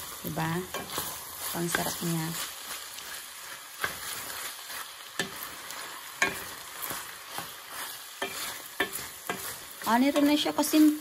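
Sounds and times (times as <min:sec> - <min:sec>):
food sizzling in a frying pan: 0:00.0 - 0:11.0
wooden spoon scraping a pan: 0:00.0 - 0:11.0.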